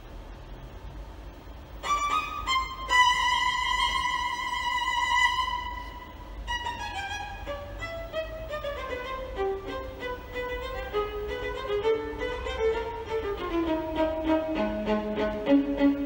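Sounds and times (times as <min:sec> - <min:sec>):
violin playing slow melody: 0:01.8 - 0:16.0.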